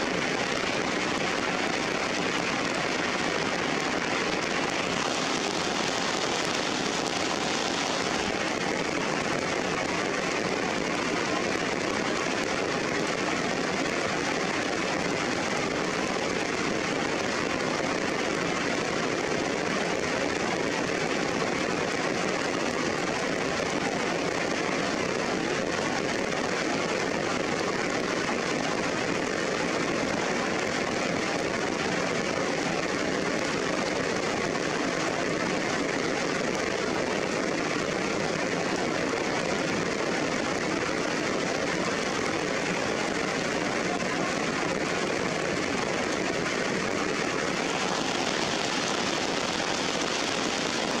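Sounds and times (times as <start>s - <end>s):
rain falling on foliage: 0.0s - 51.0s.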